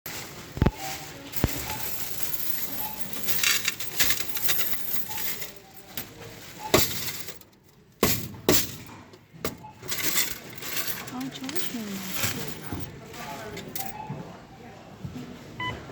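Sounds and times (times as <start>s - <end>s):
coins clinking into machine: 0.6s - 14.0s.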